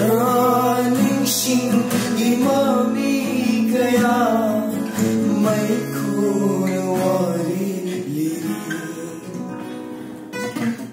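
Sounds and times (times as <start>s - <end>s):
man singing: 0.0s - 9.8s
acoustic guitars: 0.0s - 10.9s.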